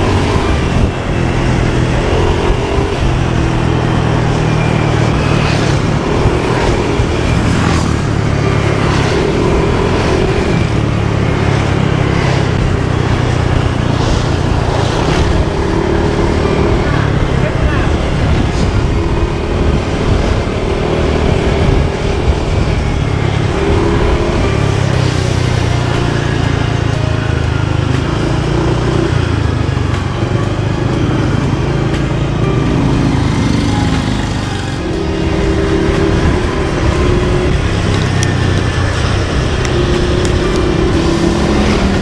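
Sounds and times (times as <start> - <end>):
road rumble: 0.0 - 42.0
vehicle engine drone: 0.0 - 42.0.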